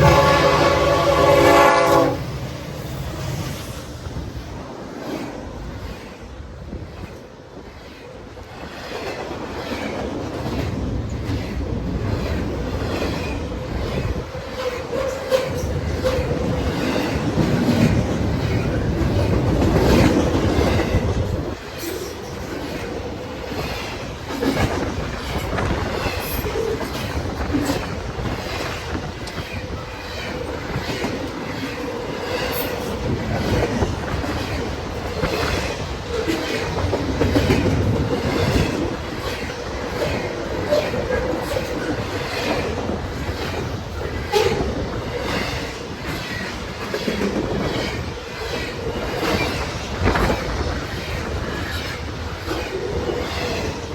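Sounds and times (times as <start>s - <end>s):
freight train rumble: 0.0s - 53.9s
wheels clicking over rail joints: 5.0s - 53.9s.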